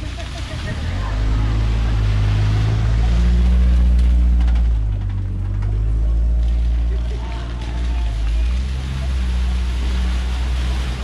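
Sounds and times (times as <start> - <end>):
car engine running: 0.0 - 11.0
water splashing from wheels: 0.0 - 11.0.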